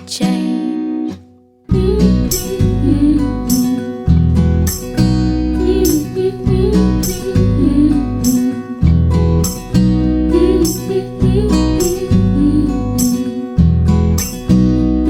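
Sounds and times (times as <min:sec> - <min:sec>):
pop song with acoustic guitar: 0:00.0 - 0:15.0.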